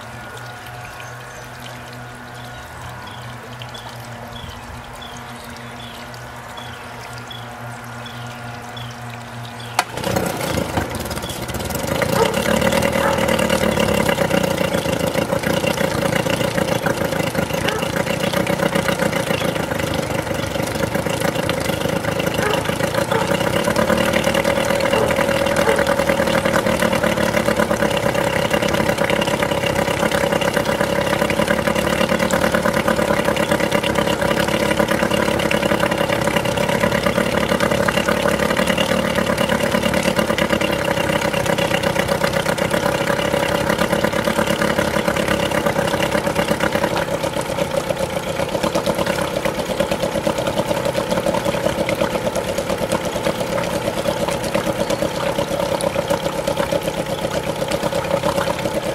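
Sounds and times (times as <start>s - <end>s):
outboard engine running: 0.0s - 58.9s.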